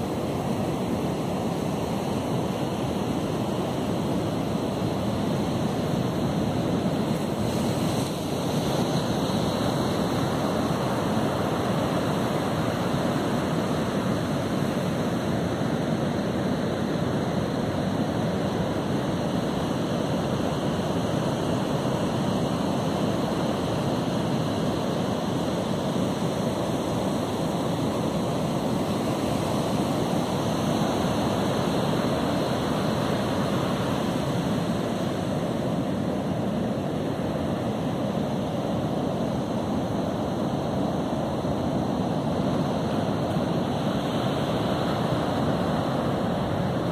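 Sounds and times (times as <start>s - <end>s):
ocean surf rushing: 0.0s - 46.9s.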